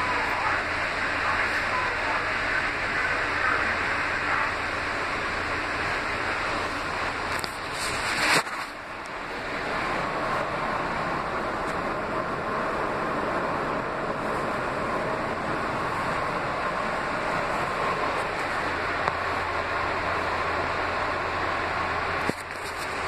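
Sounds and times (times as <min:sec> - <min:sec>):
subway wheels rushing on rail: 0:00.0 - 0:23.0.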